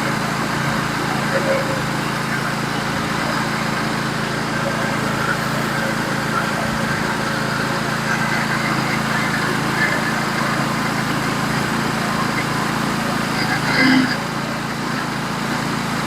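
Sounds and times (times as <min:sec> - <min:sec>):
band sawmill engine droning: 0:00.0 - 0:16.0.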